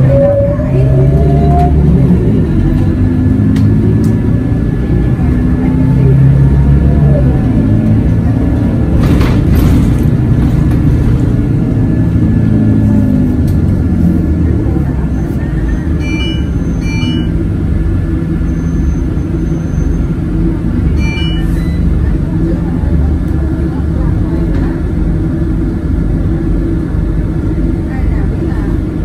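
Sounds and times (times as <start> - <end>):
bus diesel engine: 0.0 - 29.0.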